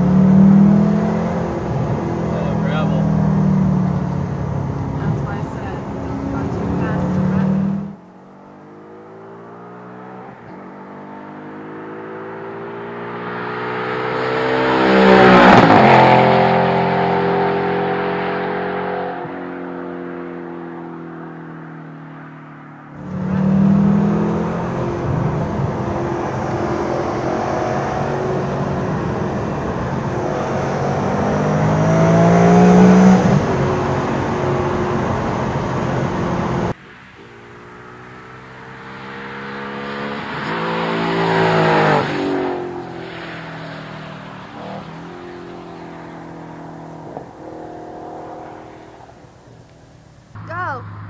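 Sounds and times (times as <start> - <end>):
car engine accelerating: 0.0 - 51.0
car passing by: 4.9 - 8.0, 9.8 - 51.0.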